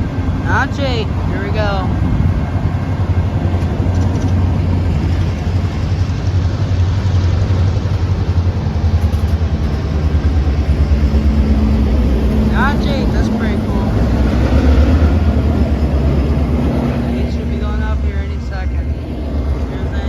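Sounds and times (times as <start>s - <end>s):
higher steady hum: 0.0s - 20.0s
locomotive engine rumbling: 0.0s - 20.0s.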